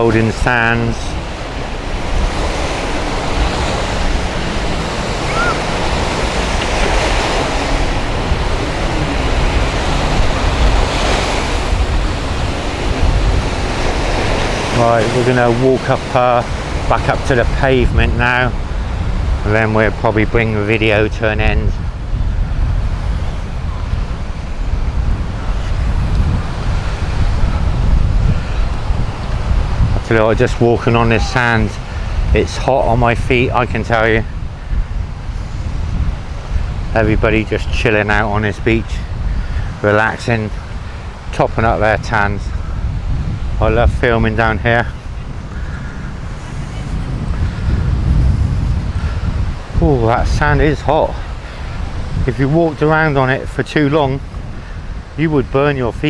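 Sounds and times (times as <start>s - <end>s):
waves breaking on beach: 0.0s - 56.0s
wind buffeting microphone: 0.0s - 56.0s.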